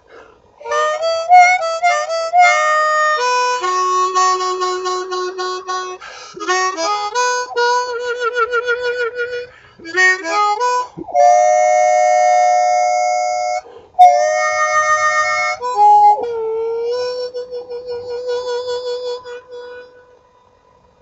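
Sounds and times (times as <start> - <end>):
harmonica playing: 0.0 - 20.6.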